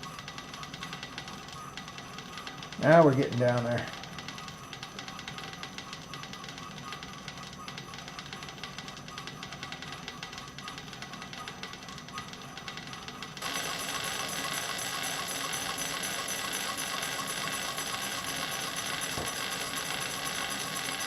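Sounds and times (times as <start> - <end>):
fast rattle of cutting tool: 0.0 - 21.0
milling machine spindle turning: 0.0 - 21.0.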